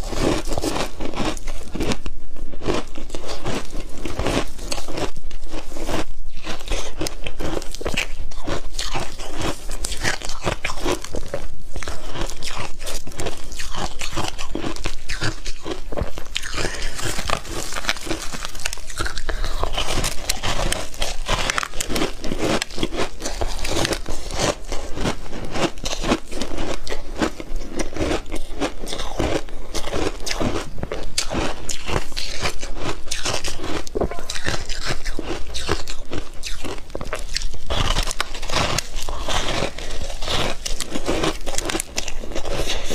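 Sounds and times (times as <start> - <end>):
ice crunching while chewed: 0.0 - 42.9.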